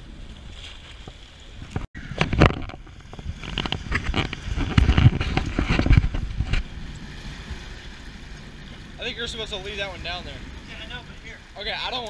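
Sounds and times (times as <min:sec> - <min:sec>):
low rumble: 0:01.7 - 0:11.9.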